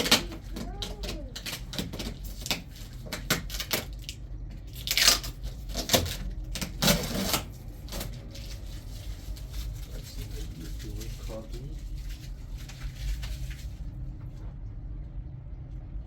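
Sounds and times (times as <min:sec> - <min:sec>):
rustling and scraping: 0:00.0 - 0:14.6.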